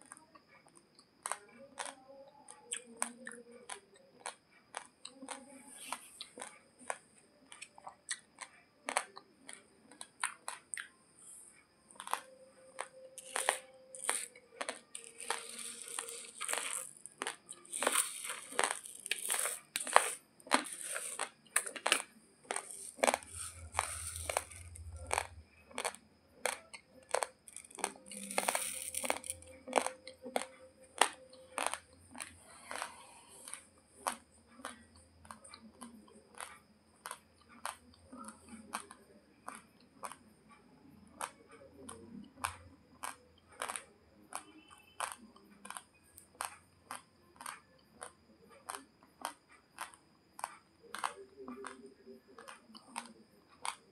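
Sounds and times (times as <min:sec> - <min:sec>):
crunchy chewing of dry rice: 0:00.0 - 0:53.9.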